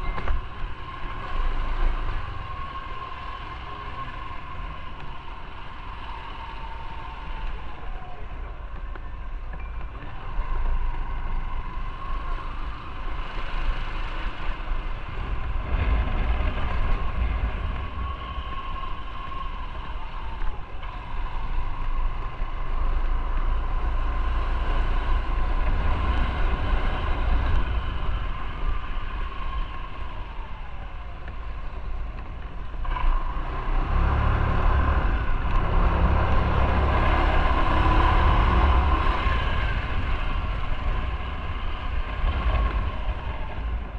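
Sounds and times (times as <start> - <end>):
wind noise on microphone: 0.0 - 43.9.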